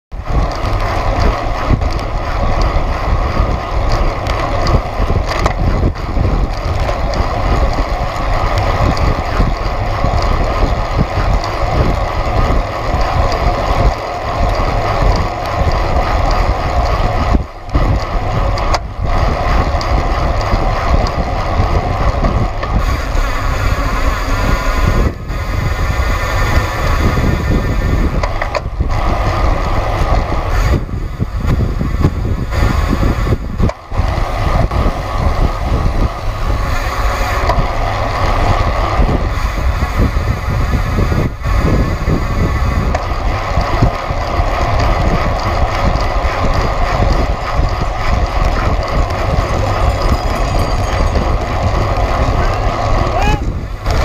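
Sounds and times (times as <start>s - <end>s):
road noise: 0.1s - 54.0s
wind rush: 0.1s - 54.0s.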